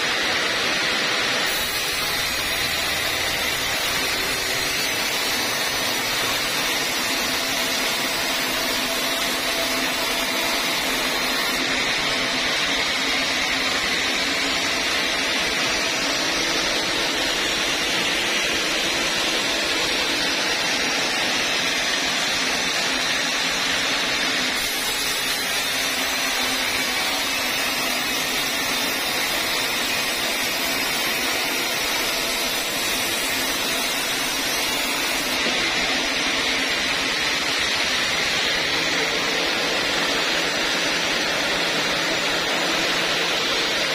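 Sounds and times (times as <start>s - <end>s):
band saw blade cutting wood: 0.0s - 43.9s.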